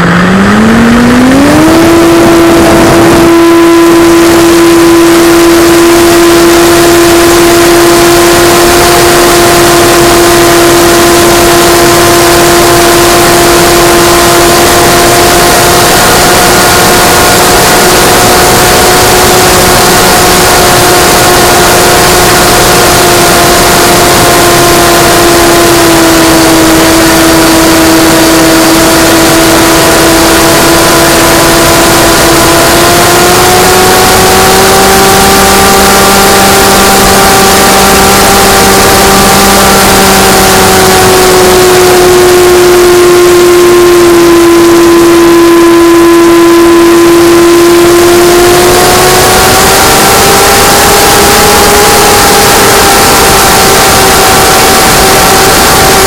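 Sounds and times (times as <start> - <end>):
model airplane motor droning: 0.0 - 56.0.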